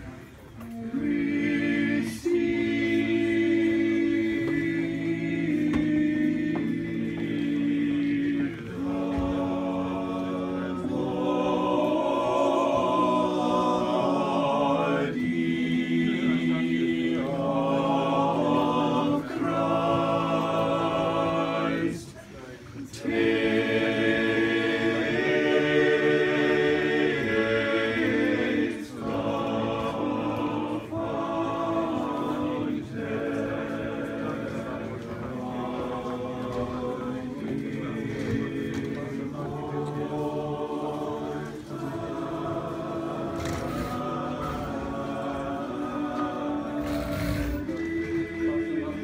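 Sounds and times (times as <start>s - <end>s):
voices singing a cappella: 0.6s - 49.0s.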